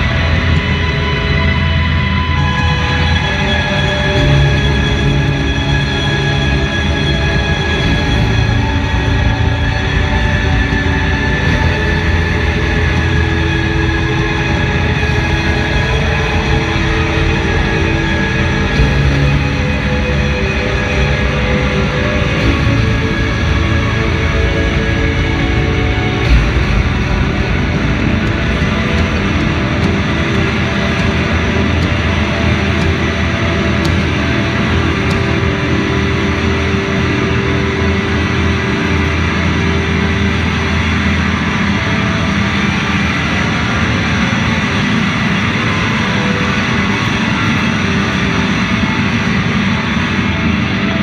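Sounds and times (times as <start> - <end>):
heavy low hit: 0.0 - 49.0
bass guitar: 0.0 - 51.0
drums: 0.0 - 51.0
electric guitars ringing: 0.0 - 51.0
live rock band playing: 0.0 - 51.0.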